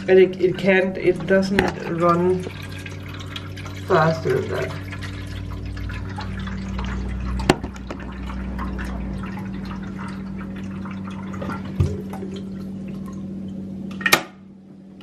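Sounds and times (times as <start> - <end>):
steady low hum: 0.0 - 15.0
tap water trickling into container: 0.5 - 14.0.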